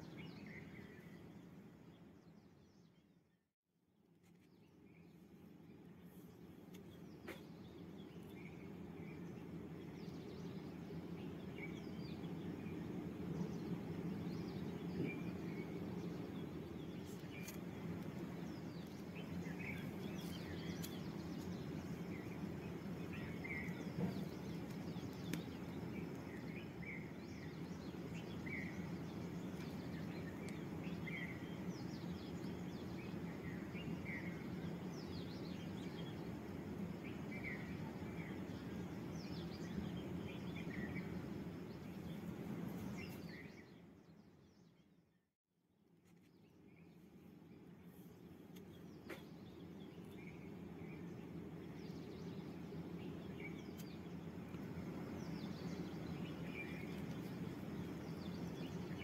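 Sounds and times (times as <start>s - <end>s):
small birds chirping: 0.0s - 3.2s, 4.2s - 45.2s, 46.0s - 59.0s.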